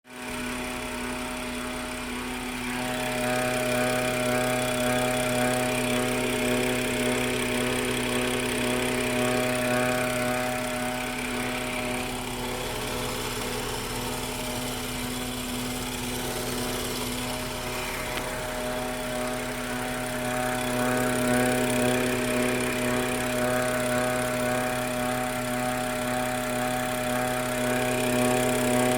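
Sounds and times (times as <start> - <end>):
turbo whine: 0.1 - 28.9
car engine idling: 0.2 - 28.9.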